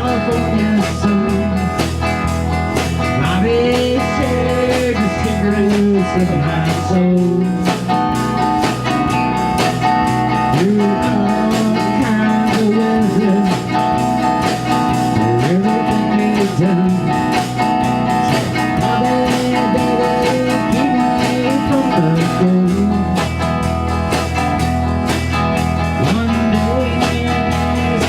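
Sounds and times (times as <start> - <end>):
bass guitar: 0.0 - 28.0
drum beat: 0.0 - 28.0
lead guitar bending notes: 0.0 - 28.0.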